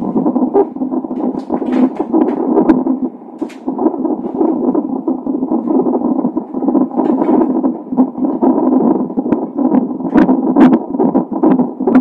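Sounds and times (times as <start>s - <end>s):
fetal heartbeat whoosh: 0.0s - 12.0s.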